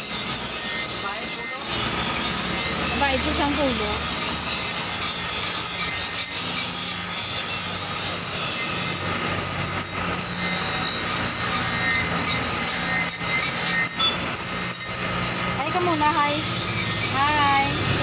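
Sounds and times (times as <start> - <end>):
grinder motor hum: 0.0 - 18.0
steel hissing on grinder wheel: 0.0 - 18.0.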